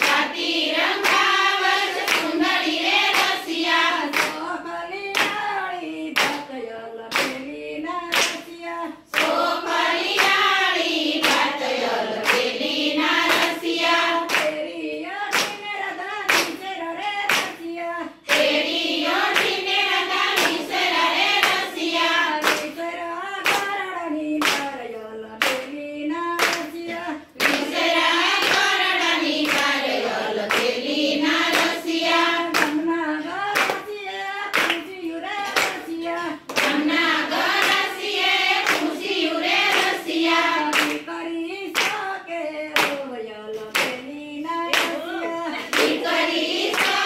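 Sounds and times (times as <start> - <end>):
hands clapping in rhythm: 0.0 - 47.0
women singing in unison: 0.0 - 47.0.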